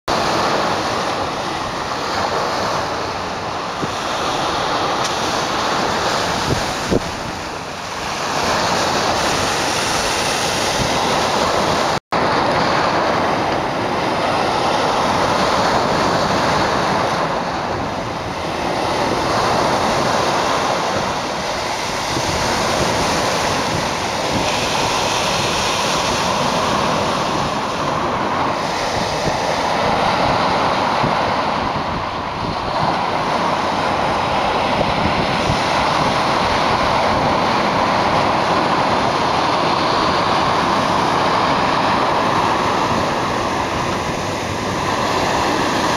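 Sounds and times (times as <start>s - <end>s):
waves breaking on rocky shore: 0.1s - 45.9s.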